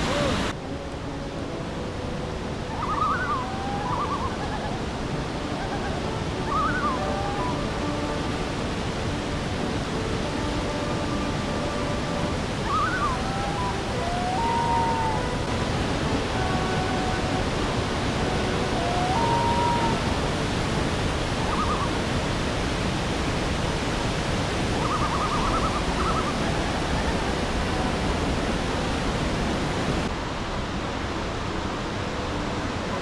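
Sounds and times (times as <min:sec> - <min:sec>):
whitewater rushing over rapids: 0:00.0 - 0:33.0.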